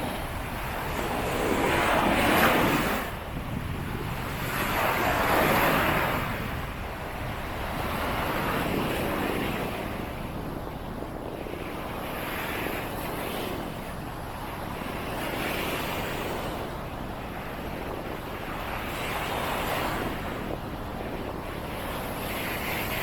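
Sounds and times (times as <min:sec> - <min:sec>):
waves breaking on beach: 0:00.0 - 0:23.0
wind buffeting microphone: 0:00.0 - 0:23.0.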